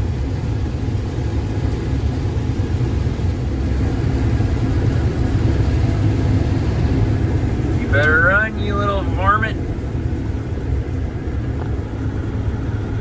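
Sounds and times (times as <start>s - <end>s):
combine harvester engine rumble: 0.0s - 13.0s.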